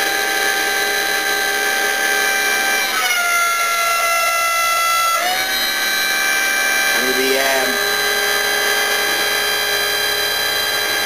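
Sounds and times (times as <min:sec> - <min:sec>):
electric motor and pump whining: 0:00.0 - 0:11.0.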